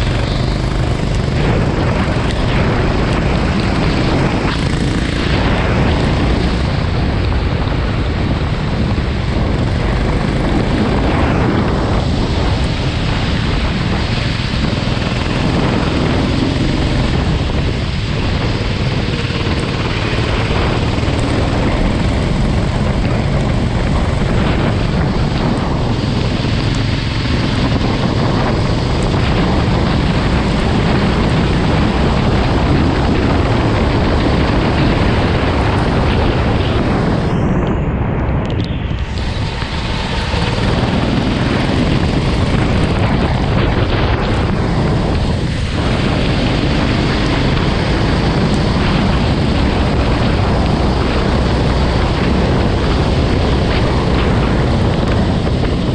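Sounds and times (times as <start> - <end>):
go-kart engine running: 0.0 - 55.9
wind rush on microphone: 0.0 - 55.9.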